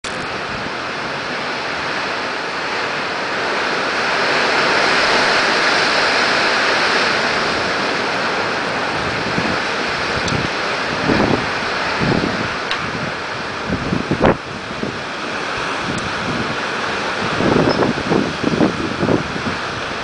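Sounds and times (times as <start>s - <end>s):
strong wind rushing through trees: 0.0s - 20.0s.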